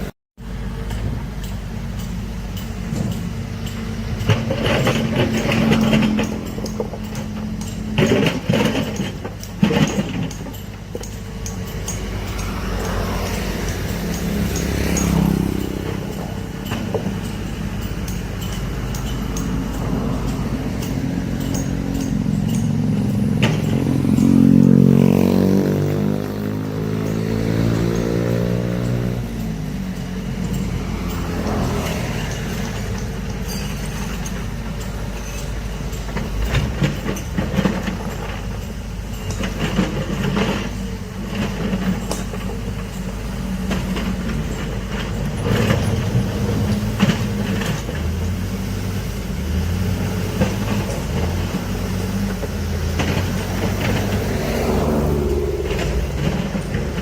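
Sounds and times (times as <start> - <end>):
metal clanks and knocks: 0.8 - 48.5, 49.9 - 57.0
excavator diesel engine revving: 2.9 - 35.2, 39.4 - 57.0.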